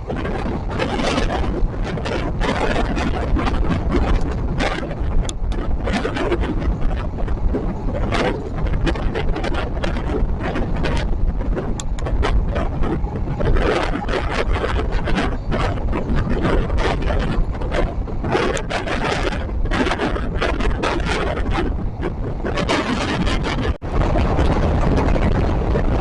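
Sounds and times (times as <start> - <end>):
train rumbling on track: 0.0 - 26.0
wind noise: 0.0 - 26.0.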